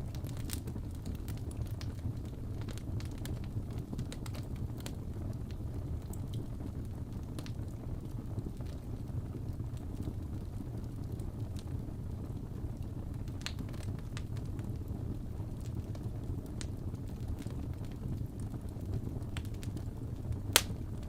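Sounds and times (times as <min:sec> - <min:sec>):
fireplace crackling and popping: 0:00.0 - 0:21.0.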